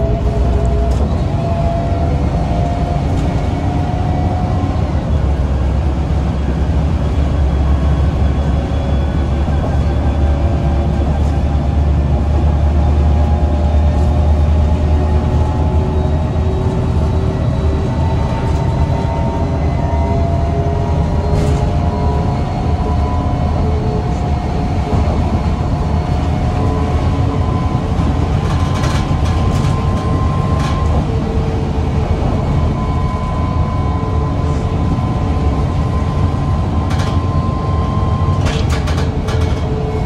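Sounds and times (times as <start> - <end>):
whining tones rising in pitch: 0.0 - 39.0
bus engine and road rumble: 0.0 - 40.0.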